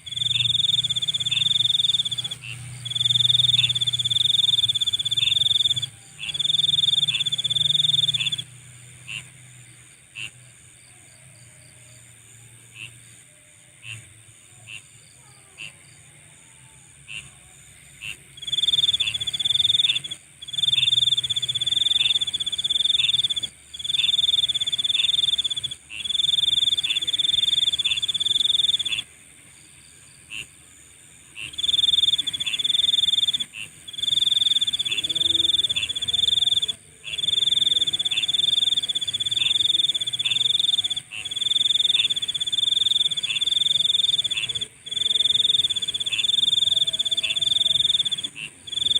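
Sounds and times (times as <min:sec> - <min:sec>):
short insect chirps: 0:00.0 - 0:08.5, 0:18.1 - 0:48.9
high-pitched insect trill: 0:00.0 - 0:09.2, 0:17.2 - 0:48.9
lower insect trill: 0:00.0 - 0:48.9.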